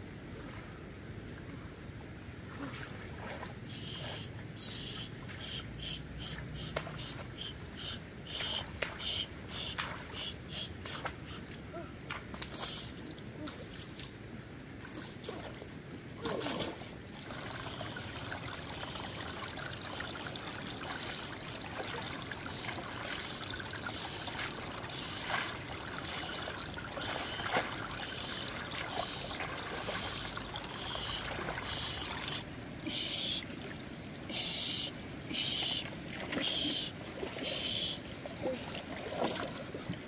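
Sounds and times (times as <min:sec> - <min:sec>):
water trickling and sloshing: 0:00.0 - 0:40.0
short water splashes: 0:02.4 - 0:40.0.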